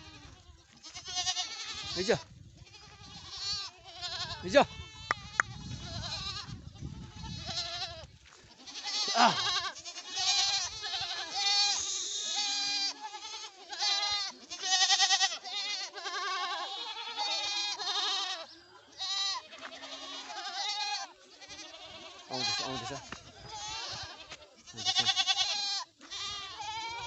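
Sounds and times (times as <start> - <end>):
goats bleating: 0.0 - 27.0.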